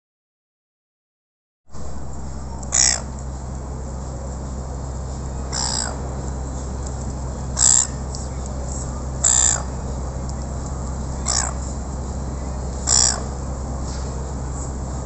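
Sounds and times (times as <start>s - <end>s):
low background hum: 1.7s - 15.0s
gulls harsh calls: 1.8s - 15.0s.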